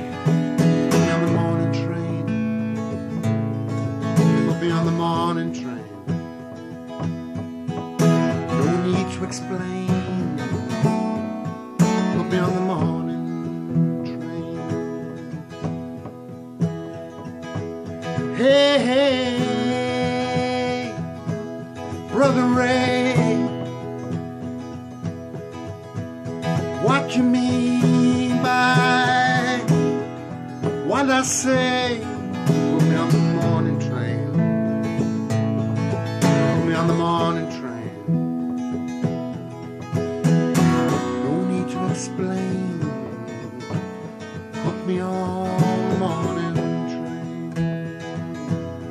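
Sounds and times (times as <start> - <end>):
acoustic guitar strumming: 0.0 - 48.9
man singing country folk song: 0.0 - 48.9.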